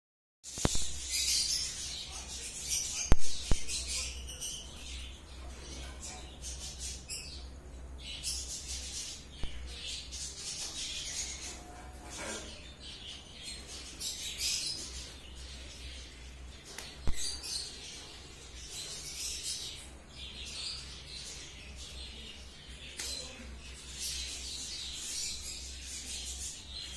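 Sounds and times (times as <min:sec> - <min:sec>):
small birds chirping: 0:00.4 - 0:26.9.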